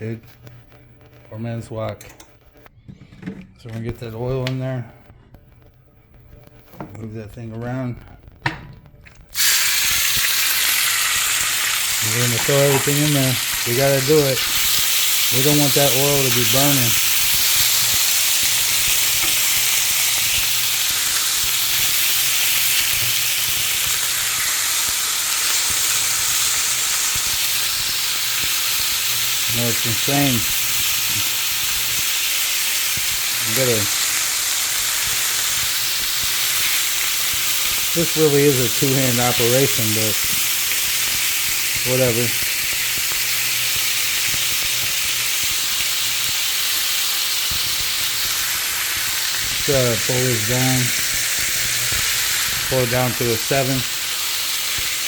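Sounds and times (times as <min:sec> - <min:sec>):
beef sizzling in oil: 0:09.3 - 0:55.0.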